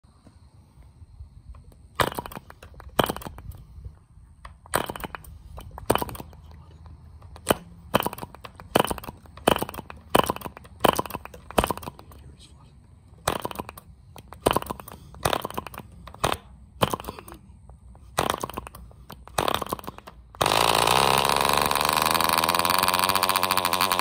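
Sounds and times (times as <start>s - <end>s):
model engine popping: 1.6s - 3.6s, 4.4s - 12.2s, 13.1s - 17.4s, 18.1s - 24.0s.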